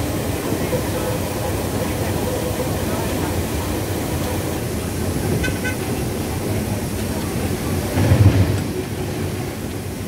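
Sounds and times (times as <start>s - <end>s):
diesel train engine and wheel rumble: 0.0s - 10.0s.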